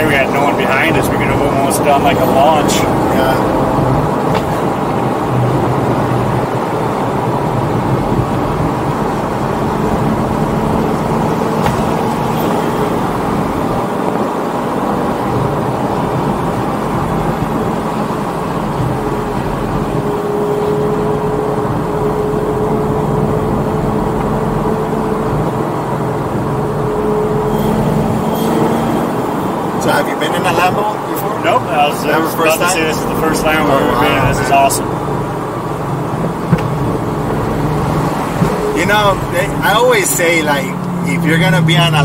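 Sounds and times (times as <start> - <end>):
car exhaust drone: 0.0 - 42.0
road noise inside car: 0.0 - 42.0.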